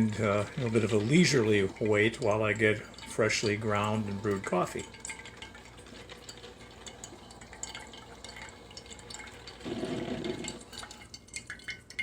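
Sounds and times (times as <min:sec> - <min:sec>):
coffee dripping into mug: 0:00.0 - 0:12.0
hot water spattering: 0:00.0 - 0:12.0.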